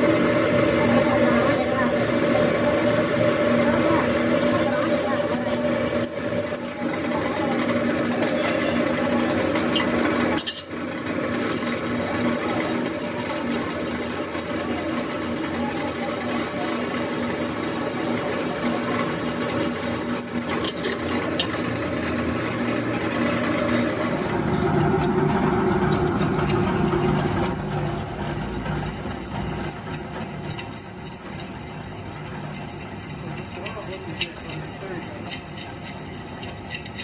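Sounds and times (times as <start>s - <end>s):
workshop machine motor running: 0.0s - 37.0s.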